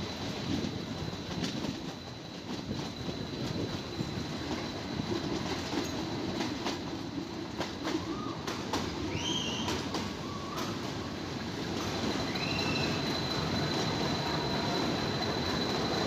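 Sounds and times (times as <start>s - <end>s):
train rumbling along track: 0.0s - 16.0s
high wheel squeals: 0.6s - 6.6s, 9.0s - 16.0s.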